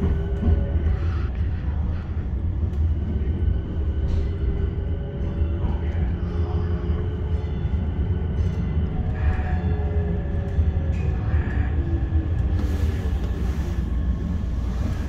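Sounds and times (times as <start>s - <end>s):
light-rail car rumbling on track: 0.0s - 15.0s.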